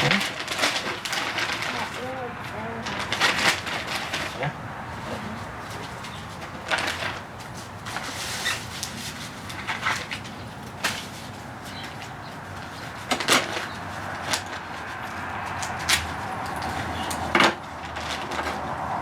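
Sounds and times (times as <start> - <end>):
corn husks rustling and tearing: 0.0 - 18.7.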